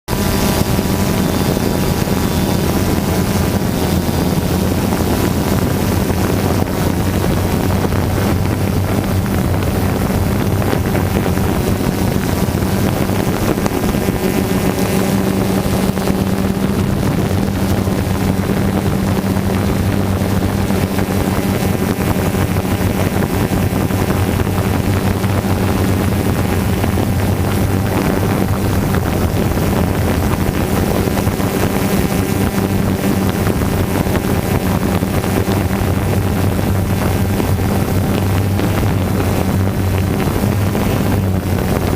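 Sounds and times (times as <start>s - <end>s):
drone propellers humming: 0.0s - 41.9s
wind on microphone: 0.1s - 41.9s.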